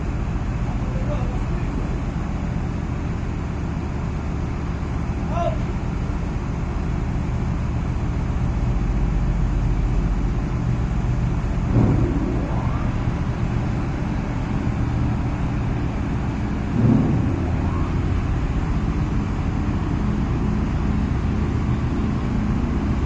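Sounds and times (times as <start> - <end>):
diesel engines droning: 0.0 - 23.0.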